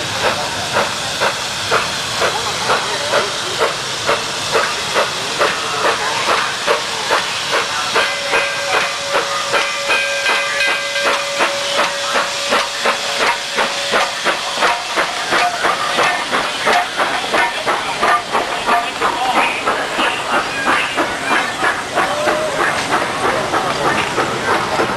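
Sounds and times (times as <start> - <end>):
hissing steam: 0.0 - 24.9
steam locomotive chuffing: 0.0 - 24.9.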